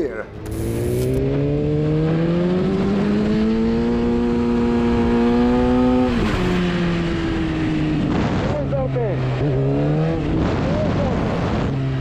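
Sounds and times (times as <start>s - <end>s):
motorcycle engine accelerating: 0.2s - 12.0s.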